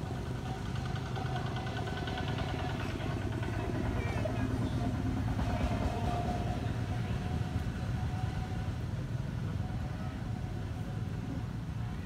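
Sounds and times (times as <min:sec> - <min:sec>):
engine running low rumble: 0:00.0 - 0:12.0.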